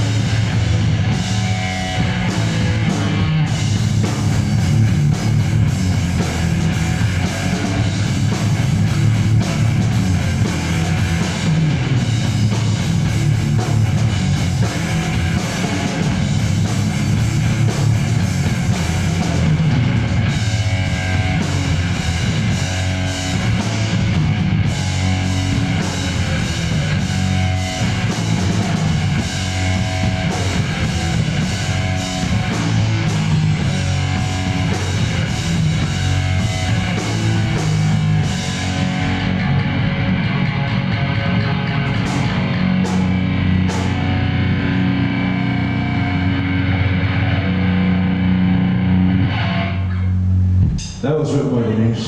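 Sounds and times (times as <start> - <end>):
drum kit steady beat: 0.0 - 39.6, 41.4 - 45.2, 50.6 - 51.6
electric guitar through amplifier: 0.0 - 52.0.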